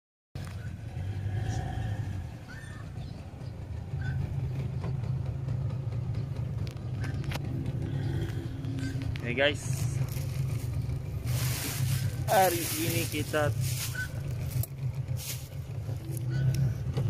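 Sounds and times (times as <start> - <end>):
outboard motor running: 0.4 - 17.0.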